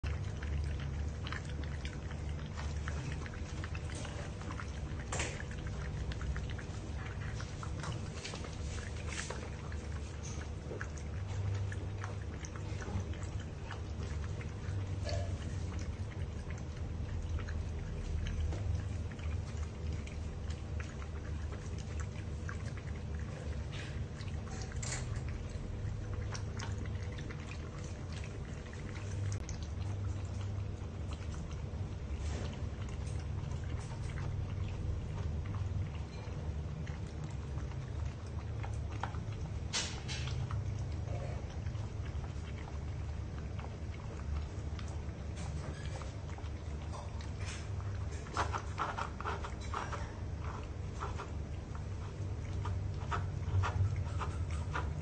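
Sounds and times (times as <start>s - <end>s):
puppy lapping water: 0.0s - 55.0s
steady low hum: 0.0s - 55.0s.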